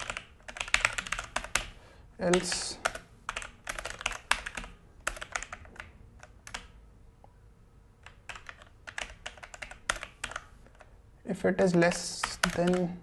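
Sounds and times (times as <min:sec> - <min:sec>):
mechanical keyboard typing: 0:00.0 - 0:06.8, 0:08.0 - 0:10.9, 0:11.6 - 0:12.9.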